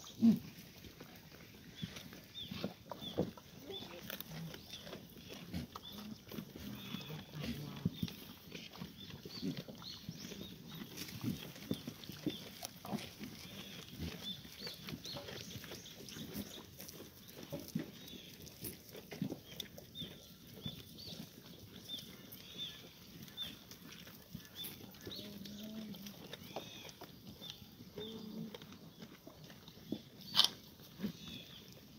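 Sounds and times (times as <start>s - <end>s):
goats lapping water: 0.0s - 31.9s.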